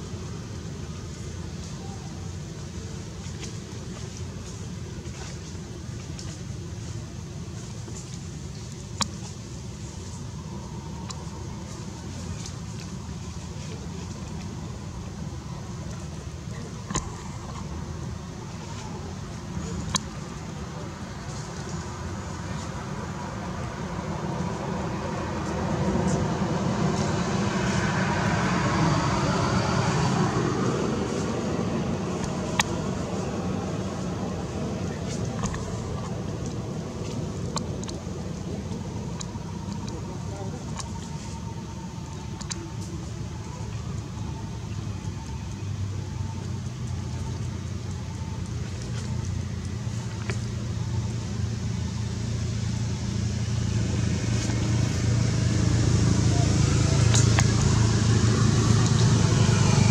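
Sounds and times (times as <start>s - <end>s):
rumbling background noise: 0.0s - 59.9s.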